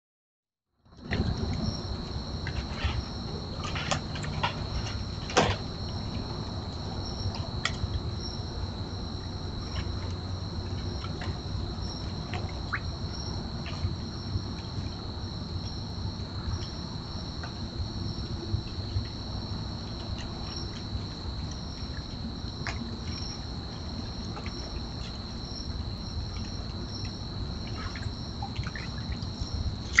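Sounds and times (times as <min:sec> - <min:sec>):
crickets trilling: 0:00.9 - 0:30.0
pulsing high insect chirp: 0:01.0 - 0:30.0.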